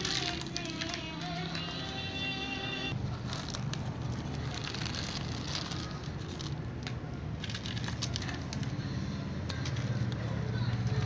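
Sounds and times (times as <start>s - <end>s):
pellets clicking on plastic: 0.0s - 2.0s, 3.0s - 8.8s, 9.4s - 11.0s.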